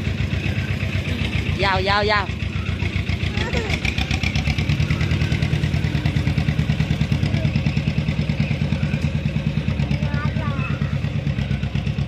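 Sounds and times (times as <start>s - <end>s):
small engine throbbing: 0.0s - 12.0s.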